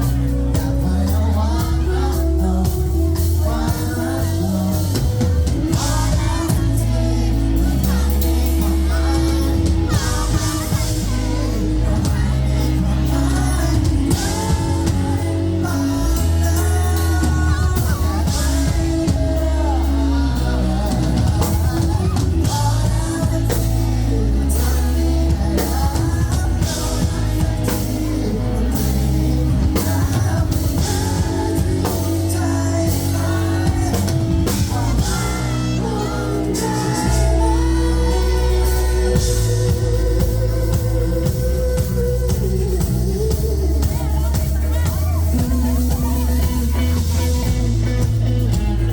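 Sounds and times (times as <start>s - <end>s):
bass: 0.0s - 48.9s
drum kit: 0.0s - 48.9s
electric guitar: 0.0s - 48.9s
person singing: 0.0s - 48.9s.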